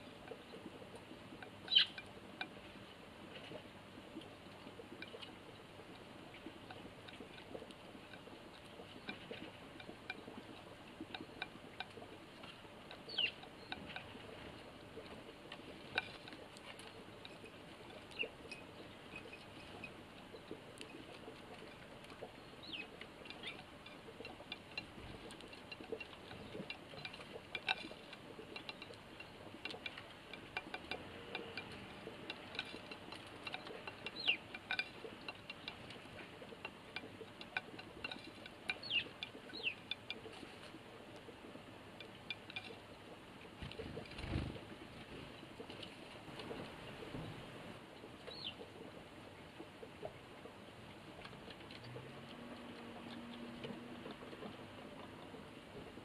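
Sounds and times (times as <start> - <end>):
birds pecking seed from a plate: 0.0 - 56.0.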